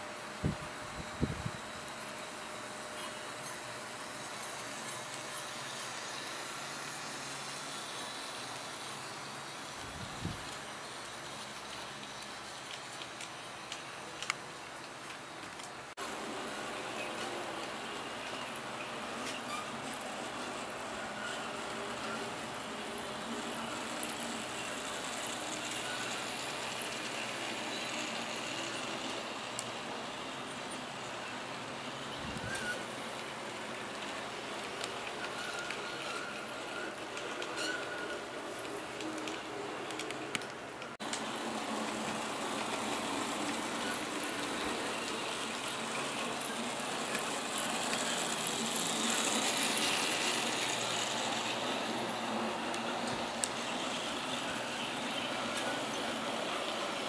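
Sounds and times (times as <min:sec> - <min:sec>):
model train motor hum: 0:00.0 - 0:57.0.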